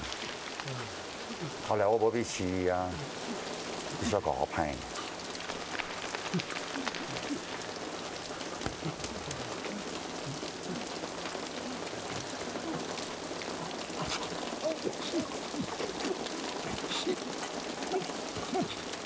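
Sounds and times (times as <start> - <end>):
rain spattering on hard surfaces: 0.0 - 19.0.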